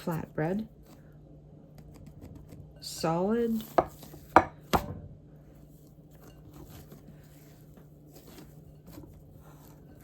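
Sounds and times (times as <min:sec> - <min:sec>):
faint steady hum: 0:00.0 - 0:10.0
dough being worked: 0:01.7 - 0:10.0.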